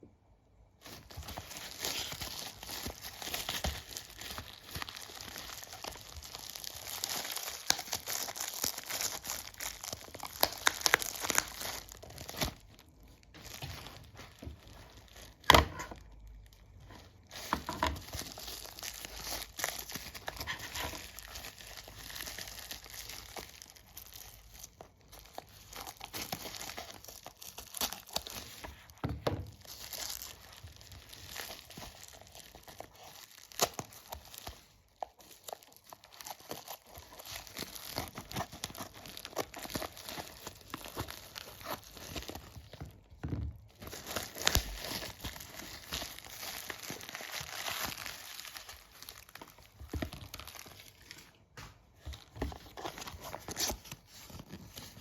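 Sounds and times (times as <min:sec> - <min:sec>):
packaging crinkling and tearing: 0:00.8 - 0:55.0.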